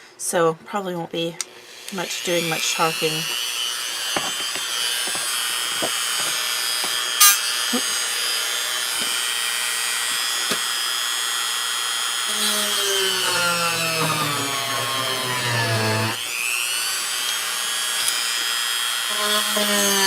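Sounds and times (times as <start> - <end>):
electric drill whining: 1.4 - 20.0.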